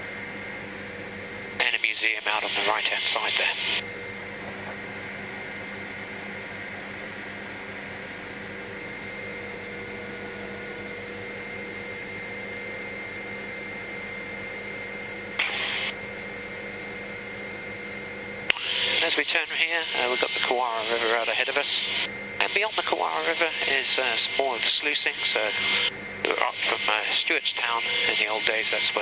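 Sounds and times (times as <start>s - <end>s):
helicopter cabin drone: 0.0s - 29.0s.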